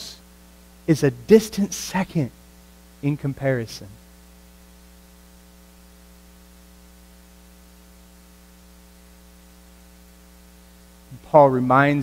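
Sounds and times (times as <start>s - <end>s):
electrical mains hum: 0.0s - 12.0s
faint hiss: 0.0s - 12.0s.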